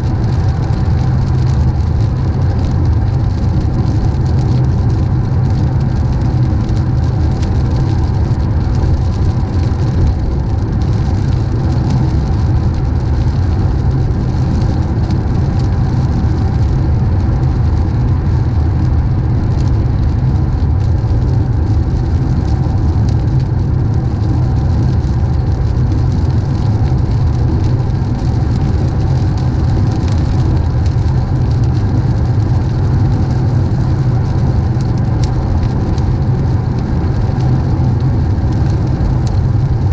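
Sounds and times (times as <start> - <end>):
car road and engine rumble: 0.0 - 39.9
rain and tyre spray hiss: 0.0 - 39.9.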